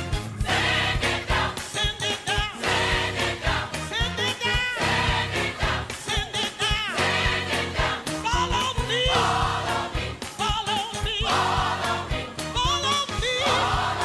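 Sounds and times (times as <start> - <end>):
organ playing: 0.0 - 14.0.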